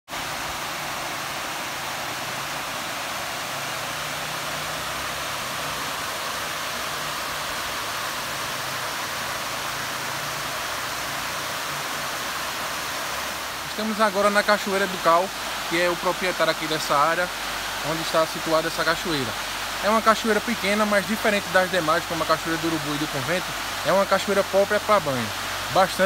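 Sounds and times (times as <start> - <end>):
small waterfall rushing over rocks: 0.1 - 26.0.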